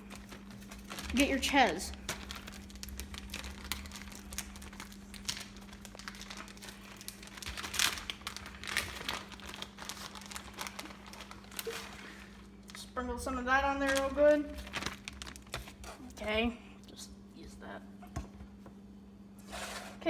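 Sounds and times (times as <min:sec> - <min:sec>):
plastic bag crinkling: 0:00.0 - 0:16.3.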